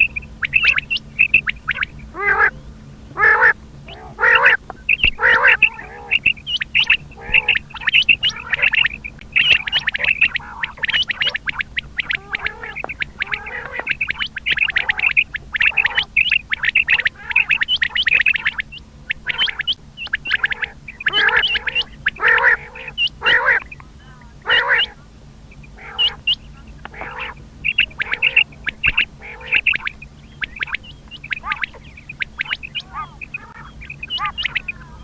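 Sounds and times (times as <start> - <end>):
lower harsh bird calls: 0.0 - 35.0
quail calling: 0.0 - 35.0.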